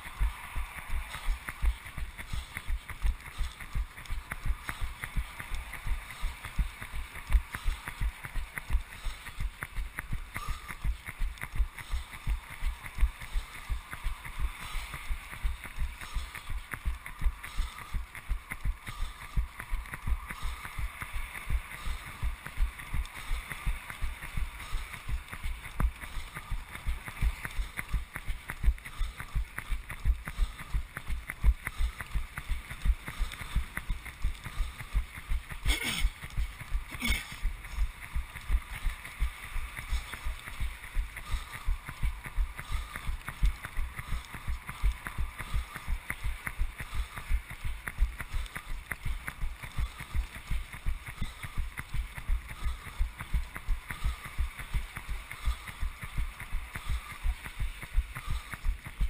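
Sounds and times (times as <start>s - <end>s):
footsteps on wet asphalt: 0.0s - 59.0s
wind and road noise: 0.0s - 59.0s.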